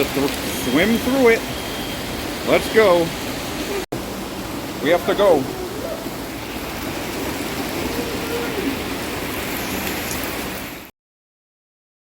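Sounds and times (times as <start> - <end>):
heavy rain on water: 0.0 - 10.9.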